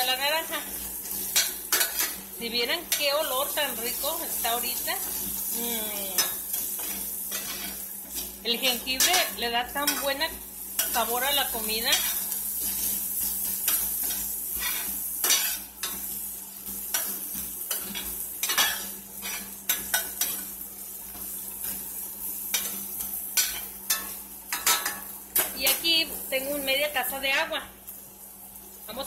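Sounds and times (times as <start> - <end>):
aromatics sizzling in oil: 0.0 - 29.0.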